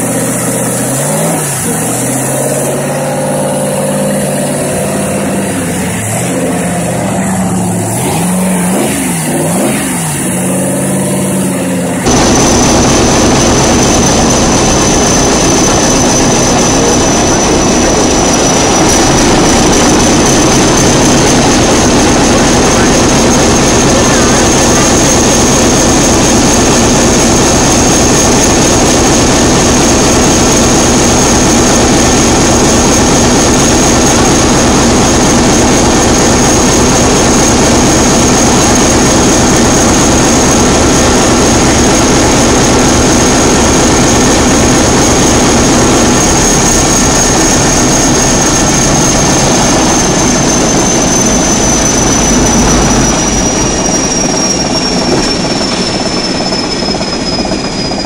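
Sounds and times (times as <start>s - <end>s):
high whine: 0.0s - 58.0s
large diesel engine running: 0.0s - 58.0s.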